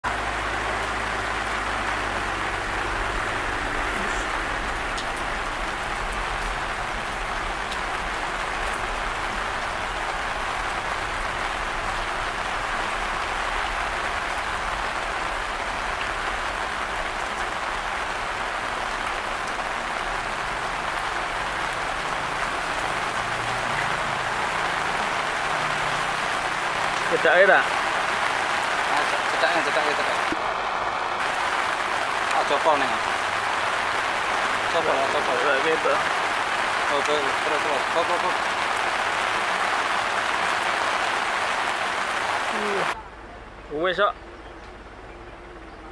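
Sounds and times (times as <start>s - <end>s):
heavy rain falling: 0.0s - 44.2s.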